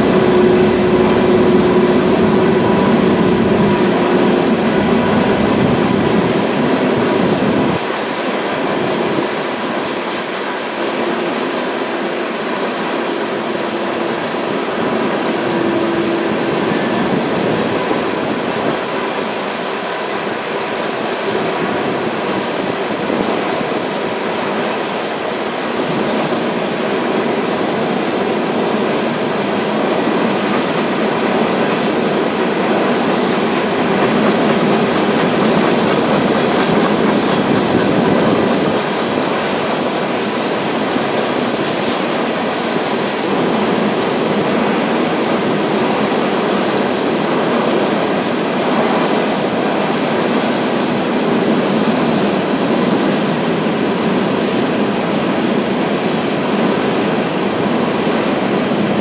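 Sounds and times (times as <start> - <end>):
steel train wheels on rail: 0.0 - 59.0.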